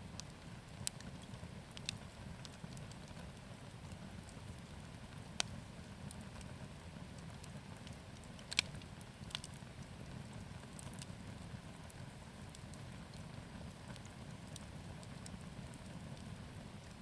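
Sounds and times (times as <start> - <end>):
bonfire burning rumble: 0.0 - 17.0
fire popping: 0.1 - 17.0.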